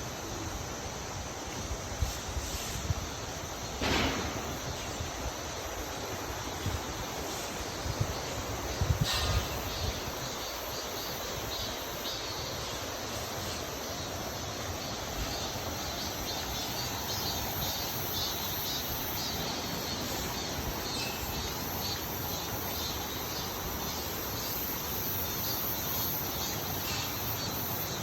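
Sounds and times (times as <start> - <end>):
insects chirping in pulses: 0.0 - 28.0.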